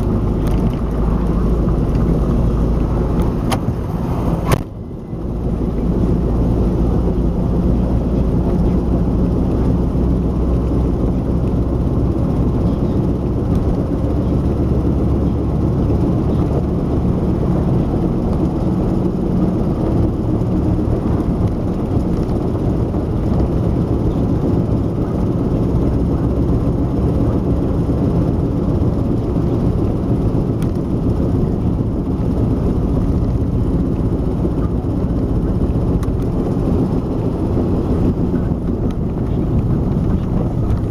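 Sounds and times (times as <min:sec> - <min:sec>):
in-cabin car driving noise: 0:00.0 - 0:40.9
rear axle cyclic hum: 0:00.0 - 0:40.9.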